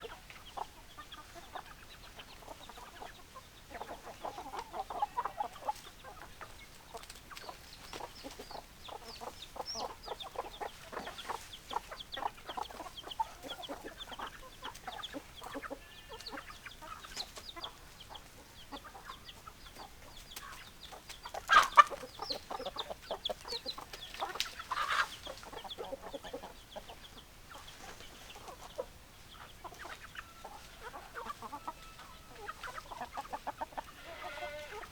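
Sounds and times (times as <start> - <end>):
loud chicken calls: 0.0 - 6.6, 8.3 - 19.3, 21.3 - 27.0, 27.6 - 34.9
hens clucking: 0.0 - 34.9.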